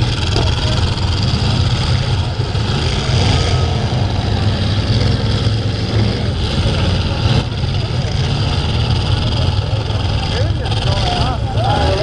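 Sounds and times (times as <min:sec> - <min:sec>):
racing truck engines: 0:00.0 - 0:12.0.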